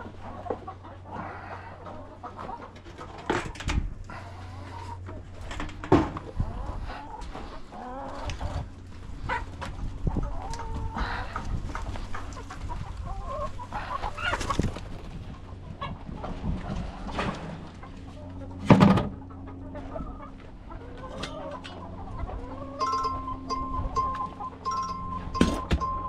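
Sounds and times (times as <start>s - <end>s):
chickens clucking: 0.0s - 26.0s
low hum: 0.0s - 26.0s.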